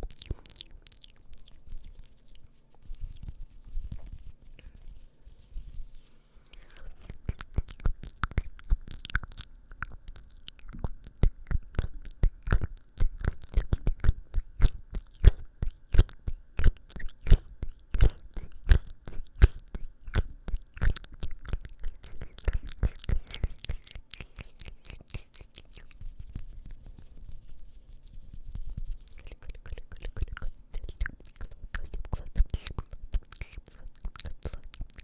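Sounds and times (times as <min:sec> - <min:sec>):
wet mouth clicks and smacks: 0:00.0 - 0:04.2, 0:06.4 - 0:27.4, 0:28.5 - 0:35.0.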